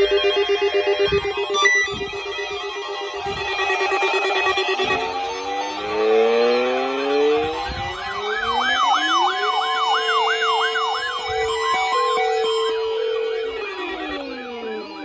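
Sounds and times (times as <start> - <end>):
electronic siren wailing: 0.0 - 15.0.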